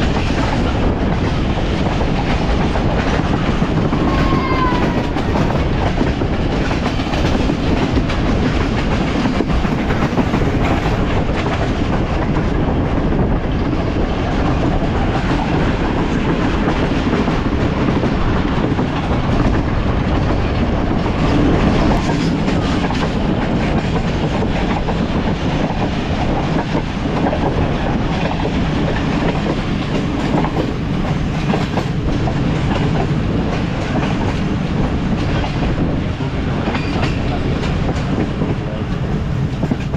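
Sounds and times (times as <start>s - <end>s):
train coach rumbling: 0.0s - 39.9s
train wheels clattering on rails: 0.0s - 39.9s.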